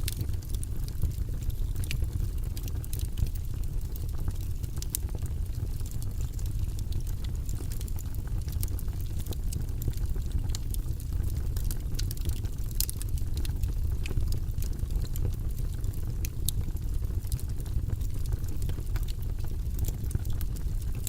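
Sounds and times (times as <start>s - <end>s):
fire rushing in fireplace: 0.0s - 21.0s
wood crackling and popping: 0.0s - 21.0s.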